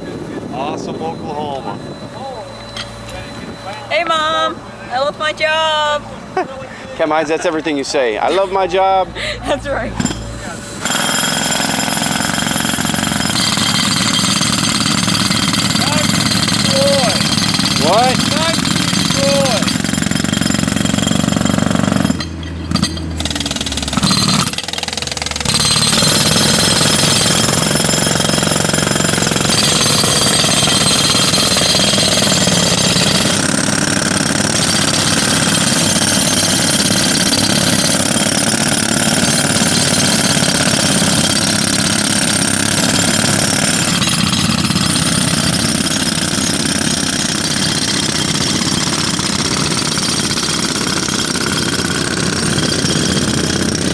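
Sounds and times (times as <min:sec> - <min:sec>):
jackhammer hammering: 0:10.0 - 0:53.9.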